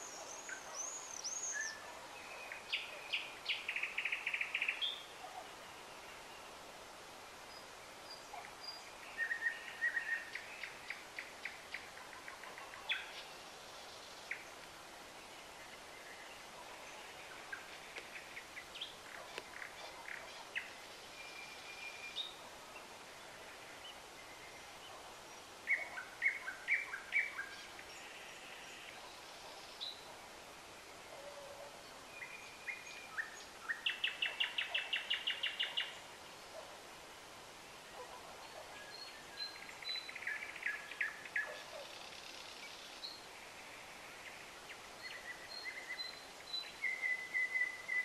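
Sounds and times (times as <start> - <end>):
songbirds singing and calling: 0.0 - 48.0
steady background hiss: 0.0 - 48.0.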